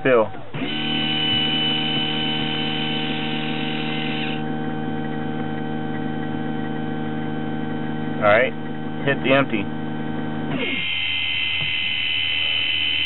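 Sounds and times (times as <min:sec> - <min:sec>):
pump humming: 0:00.0 - 0:13.0
small actuator motor whining: 0:00.0 - 0:13.0.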